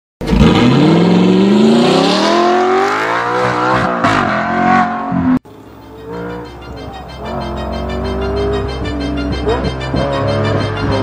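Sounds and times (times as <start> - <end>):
car engine accelerating hard: 0.2 - 11.0.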